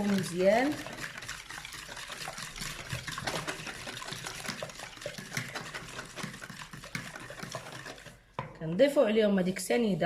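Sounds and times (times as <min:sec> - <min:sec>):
whisk clicking against bowl: 0:00.0 - 0:08.2
eggs being beaten in a bowl: 0:00.0 - 0:08.8.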